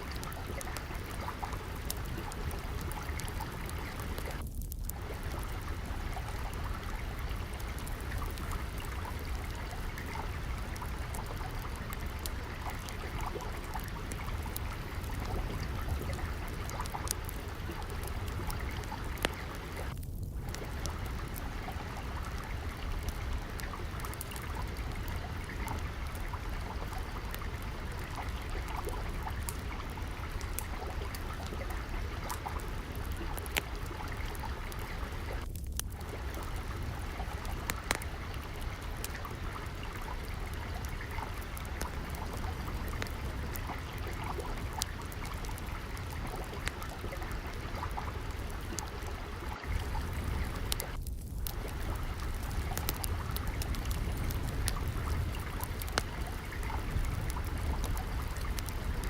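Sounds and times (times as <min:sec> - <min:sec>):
flowing water with deep rumble: 0:00.0 - 0:59.0
wood fire crackling and popping: 0:00.0 - 0:59.0.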